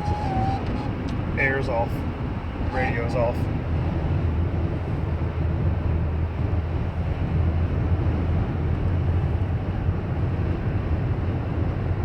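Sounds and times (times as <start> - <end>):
road rumble inside a car: 0.0 - 12.0.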